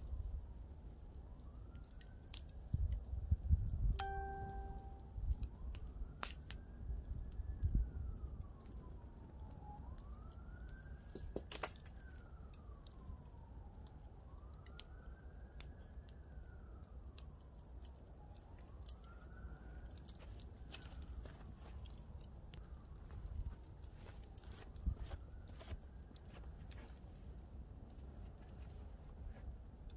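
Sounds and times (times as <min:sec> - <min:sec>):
campfire popping and crackling: 0:00.0 - 0:29.9
emergency vehicle siren wailing: 0:00.0 - 0:29.9.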